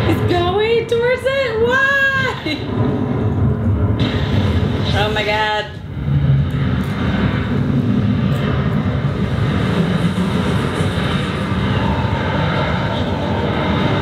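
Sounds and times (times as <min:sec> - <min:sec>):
loud rumbling roar on television: 0:00.0 - 0:14.0.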